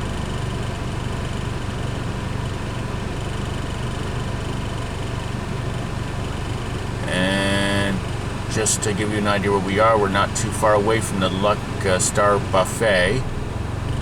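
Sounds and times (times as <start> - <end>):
engine idling rumble: 0.0 - 14.0.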